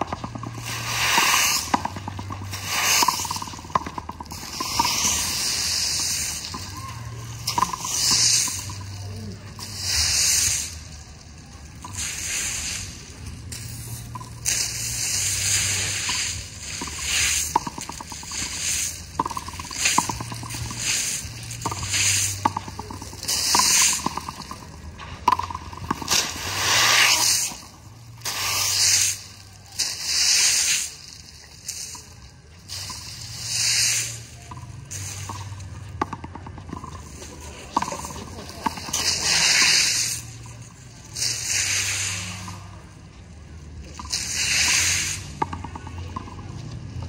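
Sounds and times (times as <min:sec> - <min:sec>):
palm fronds sweeping concrete: 0:00.0 - 0:43.0, 0:43.8 - 0:45.8.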